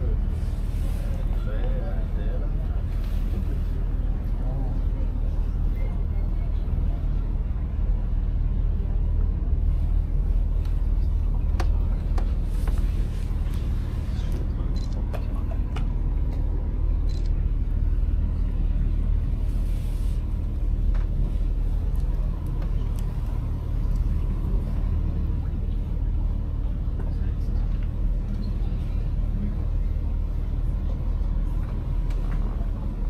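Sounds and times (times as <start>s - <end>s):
boat engine rumble: 0.0s - 33.0s
faint voices: 0.0s - 33.0s.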